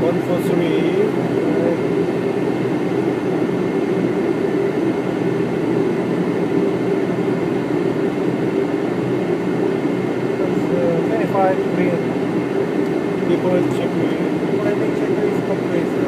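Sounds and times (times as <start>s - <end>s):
airflow and air conditioning rush: 0.0s - 16.0s.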